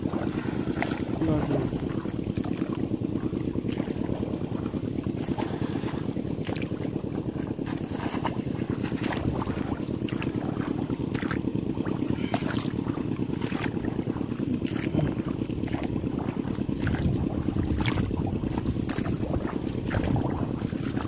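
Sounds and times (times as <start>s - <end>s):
feet wading through shallow water: 0.0s - 21.0s
wind buffeting microphone: 0.0s - 21.0s.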